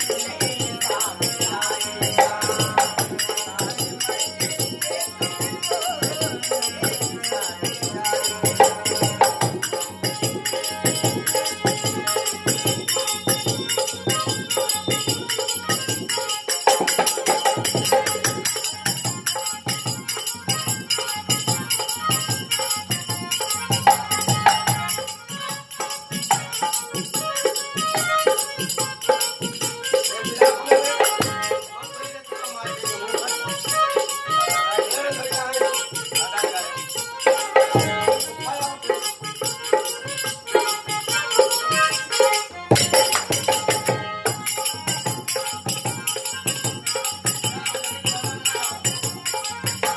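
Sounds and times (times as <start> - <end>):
dholak drumming: 0.0 - 49.9
harmonium melody: 0.0 - 49.9
small hand cymbals jingling: 0.0 - 49.9.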